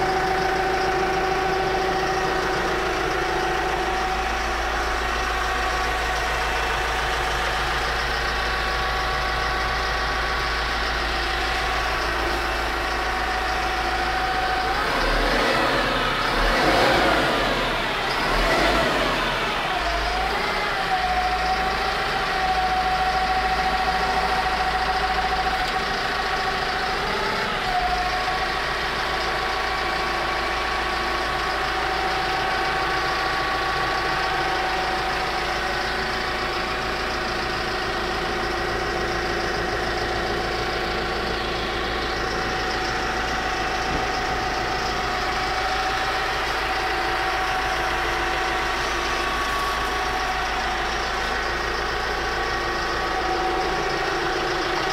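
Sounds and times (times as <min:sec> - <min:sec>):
tractor diesel engine idling: 0:00.0 - 0:54.9.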